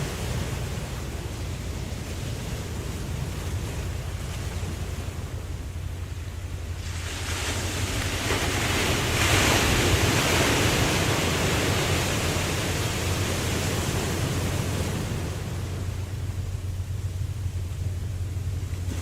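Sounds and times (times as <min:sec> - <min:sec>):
low steady surf rumble: 0:00.0 - 0:19.0
ocean wave surging: 0:00.0 - 0:19.0.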